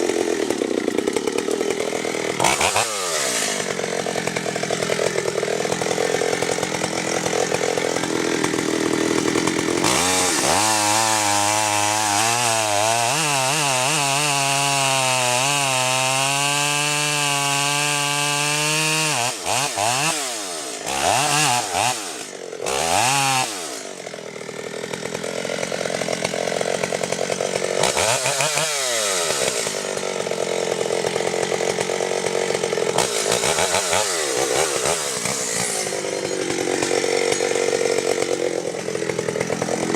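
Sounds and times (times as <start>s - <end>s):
chainsaw cutting: 0.0s - 39.9s.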